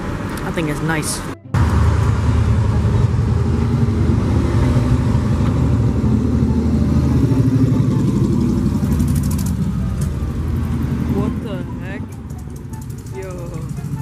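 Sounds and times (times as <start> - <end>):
motorcycle riding past: 1.6 - 14.0.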